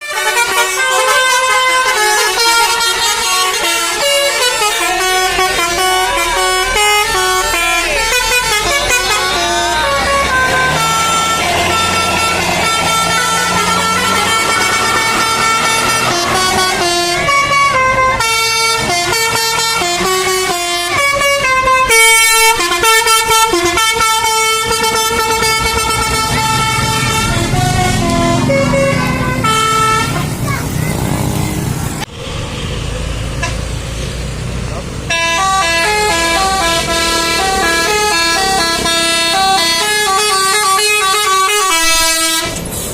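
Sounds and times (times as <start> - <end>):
musical bus air horns: 0.0 - 30.8, 32.5 - 33.8, 35.0 - 42.9.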